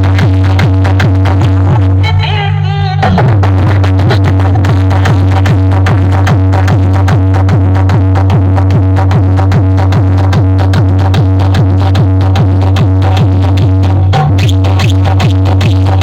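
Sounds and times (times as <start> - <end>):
fast kick drum beat: 0.0 - 2.2, 3.0 - 16.0
heavy bass tone: 0.0 - 16.0.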